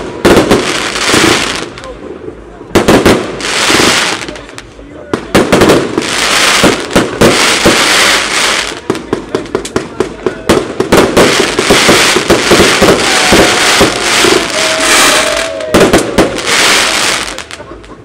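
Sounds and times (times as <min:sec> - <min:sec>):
crackling firework stars: 0:00.0 - 0:18.0
firework bangs: 0:00.0 - 0:18.0.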